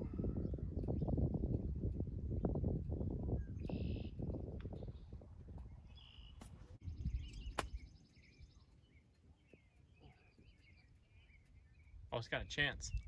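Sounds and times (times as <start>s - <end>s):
birds chirping: 0.0s - 13.0s
wind rumble: 0.0s - 13.0s.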